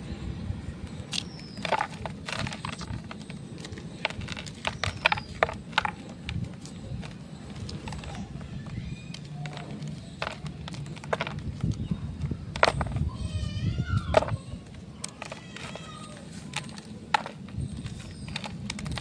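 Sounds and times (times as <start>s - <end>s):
chalk block crunching: 0.9s - 19.0s.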